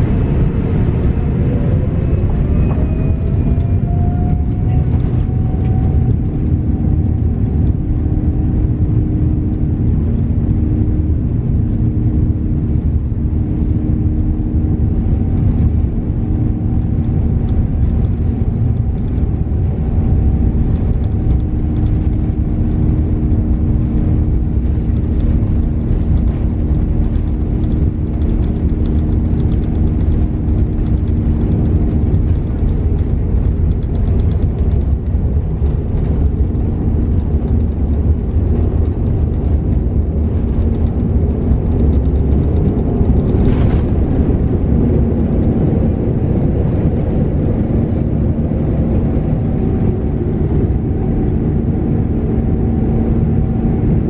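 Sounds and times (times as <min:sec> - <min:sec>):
aircraft engines and wheels rumbling: 0:00.0 - 0:54.0
steady cabin hum: 0:00.0 - 0:54.0.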